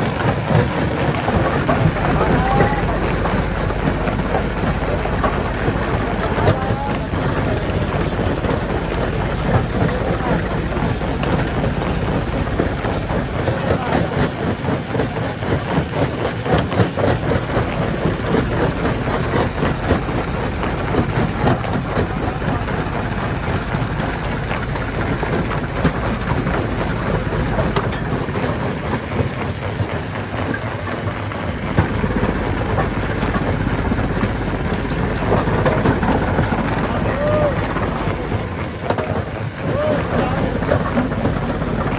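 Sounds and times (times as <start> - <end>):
heavy machinery engine running: 0.0 - 41.9.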